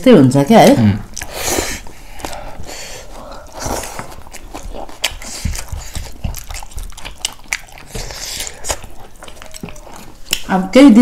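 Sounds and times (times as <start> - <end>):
chewing food: 0.7 - 10.8.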